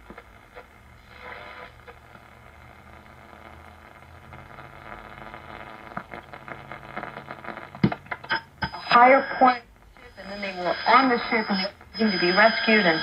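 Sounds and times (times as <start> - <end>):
low steady hum: 0.0 - 13.0
radio crackles: 0.0 - 13.0
radio static hiss: 0.0 - 13.0.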